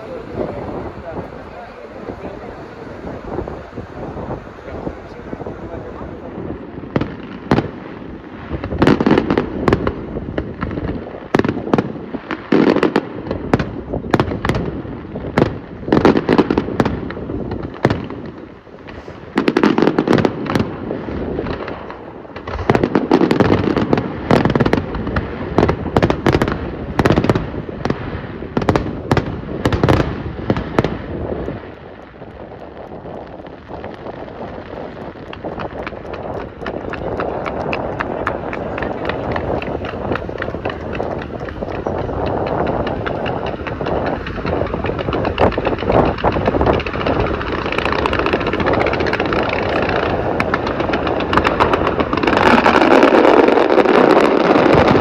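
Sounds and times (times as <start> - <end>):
low booming rumble: 0.0 - 12.2, 12.8 - 55.0
fireworks bursting with sharp bangs: 0.0 - 55.0.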